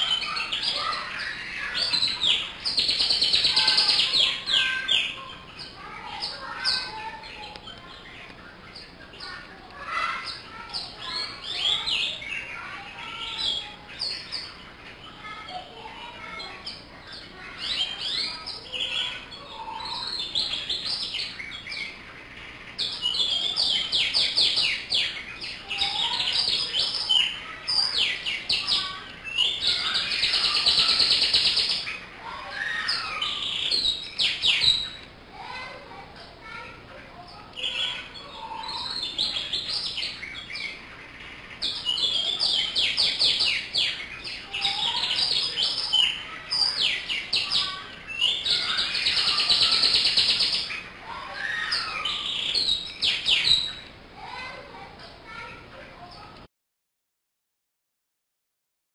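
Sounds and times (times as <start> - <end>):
canary singing: 0.0 - 54.6.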